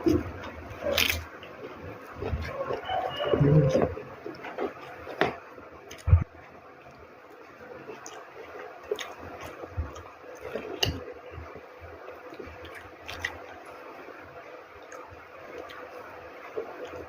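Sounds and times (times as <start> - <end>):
wet chewing: 0.0 - 13.9, 14.8 - 17.0.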